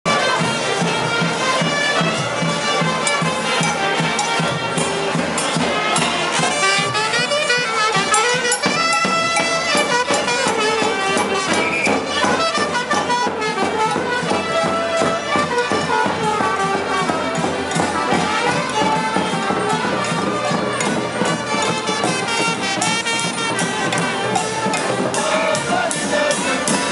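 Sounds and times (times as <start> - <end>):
steady drum beats: 0.1 - 26.9
wind instruments playing melody: 0.1 - 26.9.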